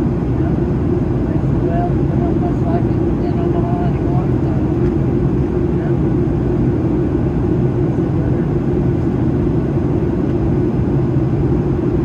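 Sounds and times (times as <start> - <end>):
airplane cabin noise: 0.0 - 12.0.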